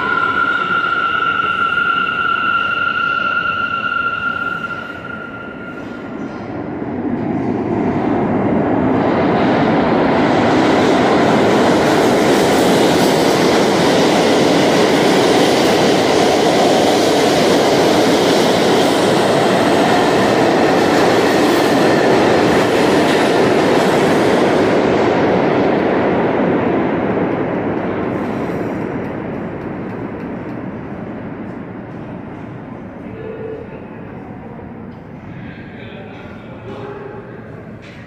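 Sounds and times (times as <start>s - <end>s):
subway train rumbling past: 0.0s - 38.0s.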